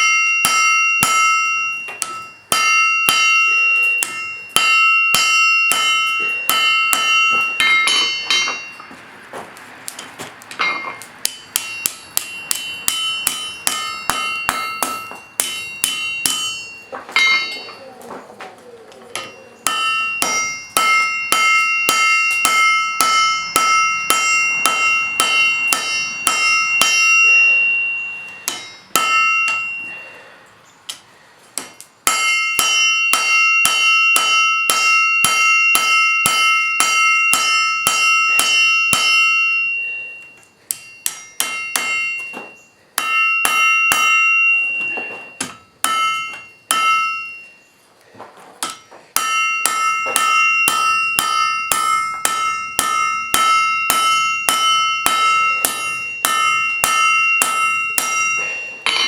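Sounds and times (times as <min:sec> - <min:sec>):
hammer striking steel on anvil: 0:00.0 - 0:09.0, 0:09.9 - 0:17.9, 0:19.1 - 0:47.8, 0:48.6 - 0:59.0.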